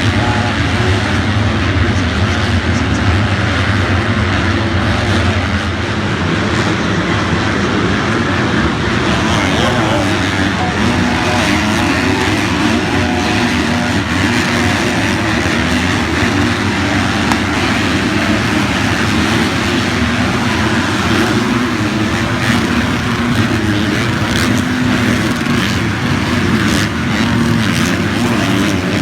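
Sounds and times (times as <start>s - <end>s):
motocross bike engines: 0.0s - 29.0s.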